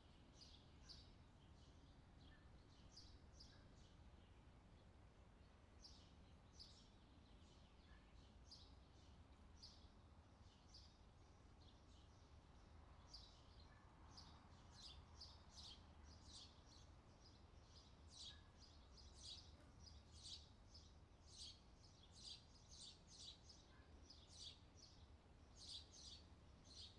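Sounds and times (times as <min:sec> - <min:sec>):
small songbirds chirping: 0:00.0 - 0:26.9.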